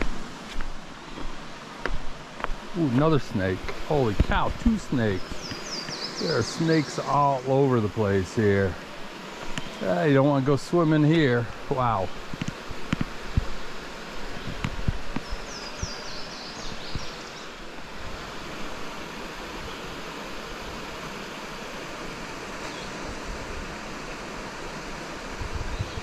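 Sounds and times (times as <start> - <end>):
creek water rushing: 0.0 - 25.5.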